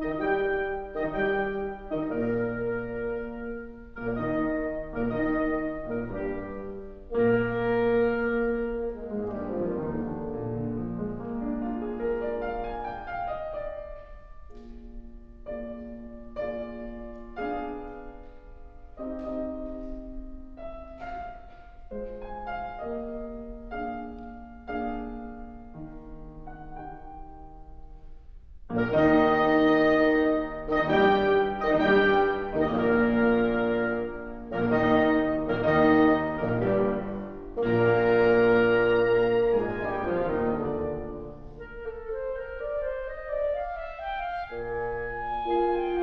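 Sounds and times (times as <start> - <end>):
piano and wind chamber music: 0.0 - 46.0.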